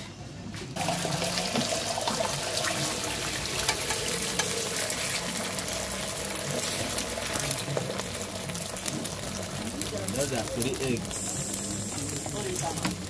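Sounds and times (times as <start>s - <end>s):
eggs sizzling on a griddle: 0.8s - 13.0s.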